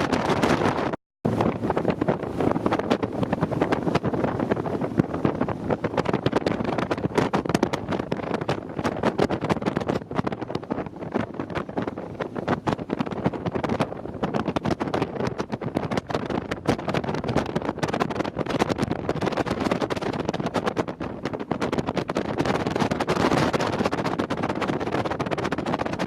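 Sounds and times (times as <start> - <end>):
speedboat engine and hull noise: 0.0 - 26.0
wind buffeting microphone: 0.0 - 26.0.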